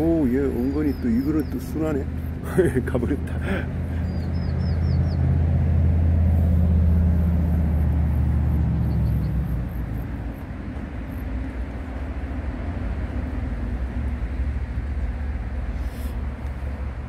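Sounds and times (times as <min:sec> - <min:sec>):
low vehicle engine rumble: 0:00.0 - 0:17.0.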